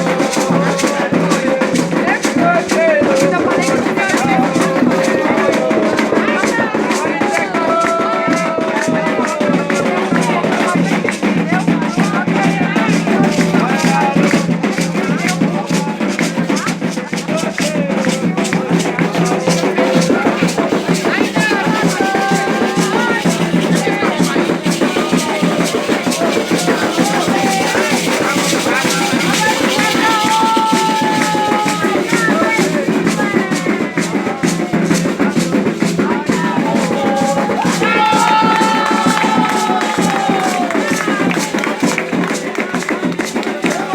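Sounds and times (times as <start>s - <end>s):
drums and rattles: 0.0s - 43.9s
voices chanting: 0.0s - 43.9s.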